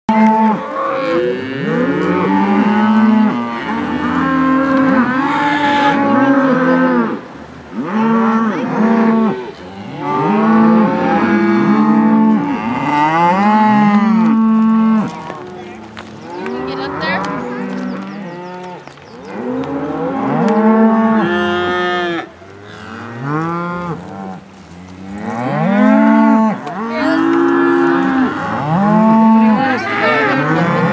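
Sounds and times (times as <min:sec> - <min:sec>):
cows mooing: 0:00.1 - 0:30.9.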